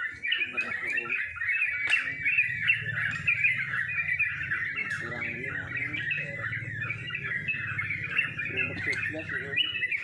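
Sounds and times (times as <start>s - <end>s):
birds chirping in chorus: 0.0s - 10.0s.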